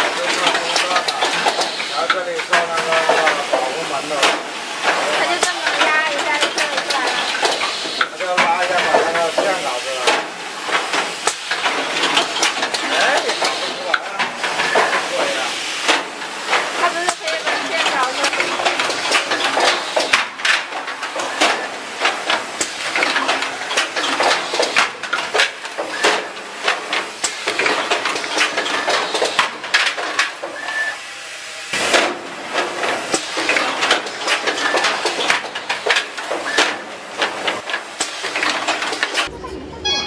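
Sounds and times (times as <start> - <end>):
machines clattering: 0.0 - 31.0, 31.7 - 40.0.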